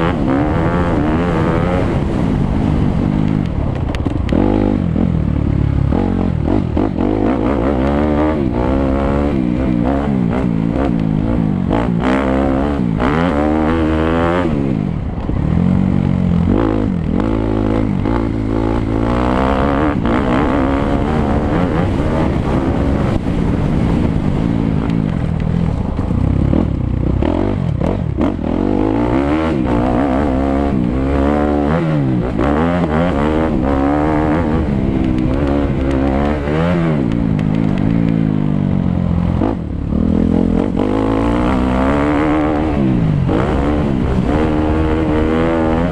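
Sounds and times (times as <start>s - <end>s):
motocross bike engine revving: 0.0s - 3.4s, 4.2s - 45.9s.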